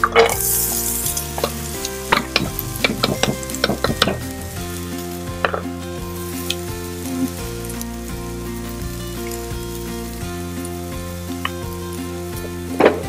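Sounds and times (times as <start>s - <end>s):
carrots sizzling in hot oil: 0.0s - 13.0s.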